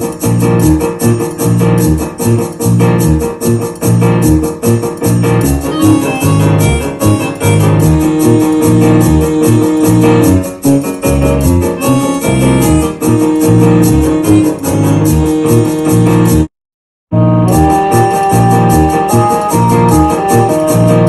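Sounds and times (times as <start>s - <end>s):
bass line: 0.0s - 16.5s, 17.1s - 21.0s
keyboard chords: 0.0s - 16.5s, 17.1s - 21.0s
quick steady beat: 0.0s - 16.5s, 17.5s - 21.0s.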